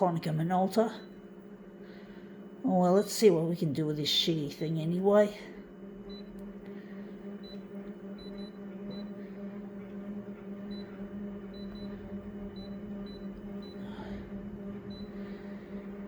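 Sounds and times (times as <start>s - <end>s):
photocopier humming: 0.0s - 16.0s.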